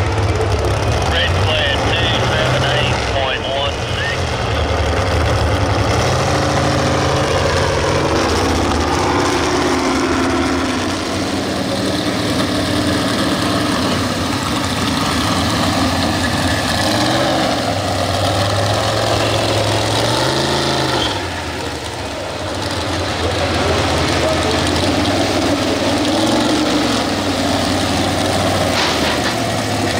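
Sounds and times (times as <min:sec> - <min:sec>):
truck engine idling unevenly: 0:00.0 - 0:29.9.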